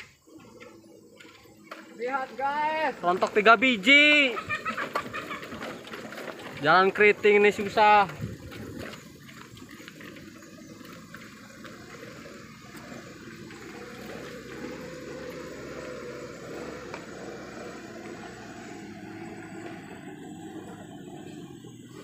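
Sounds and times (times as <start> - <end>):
rushing dirt road noise: 0.0 - 22.0
vehicle engine running low: 0.0 - 22.0.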